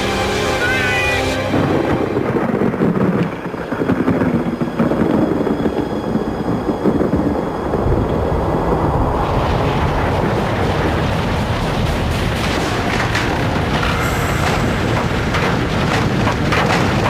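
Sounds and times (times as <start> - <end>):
tornado wind roar: 0.0 - 17.0.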